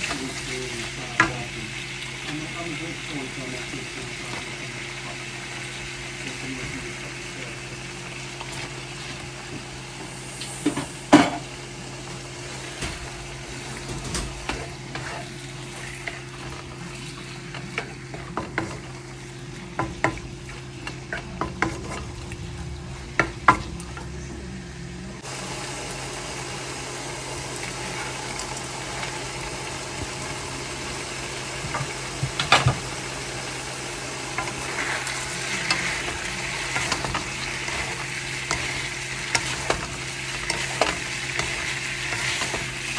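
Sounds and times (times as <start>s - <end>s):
food sizzling in a frying pan: 0.0s - 42.9s
steady hum: 0.0s - 42.9s.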